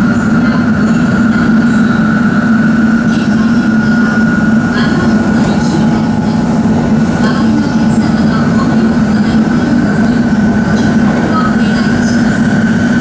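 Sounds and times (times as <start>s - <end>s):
high-speed train rushing: 0.0s - 13.0s.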